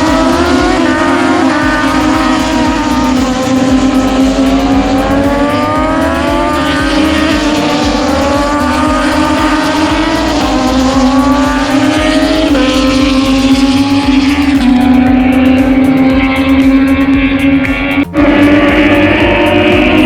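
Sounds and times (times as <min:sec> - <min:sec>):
racing motorcycle engine accelerating: 0:00.0 - 0:20.0.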